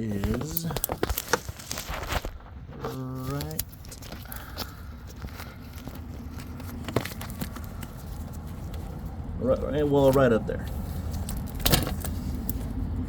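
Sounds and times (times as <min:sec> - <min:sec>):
rustling handling noise: 0:00.0 - 0:13.0.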